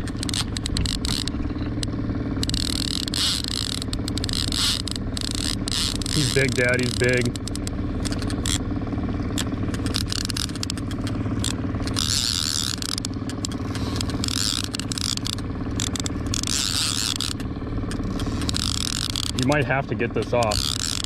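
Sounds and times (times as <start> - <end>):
fishing reel gears whirring: 0.0 - 21.0
outboard motor drone: 0.0 - 21.0
reel clicks: 0.0 - 21.0.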